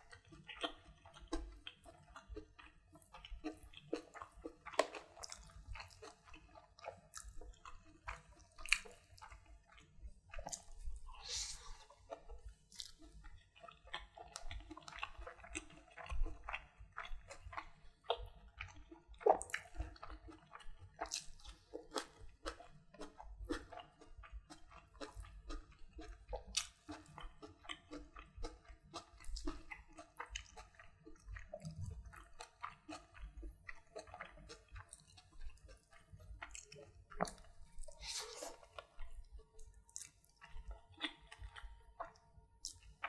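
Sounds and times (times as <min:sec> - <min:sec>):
wet chewing of food: 0:00.0 - 0:43.0.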